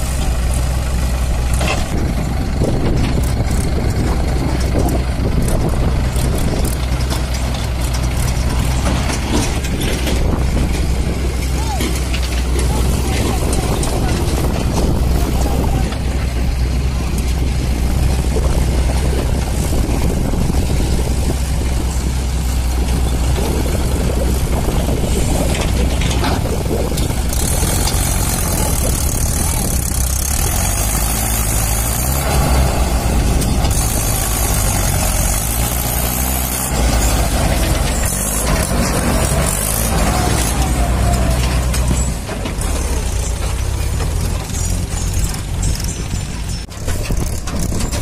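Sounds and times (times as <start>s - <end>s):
diesel engines droning: 0.0s - 48.0s.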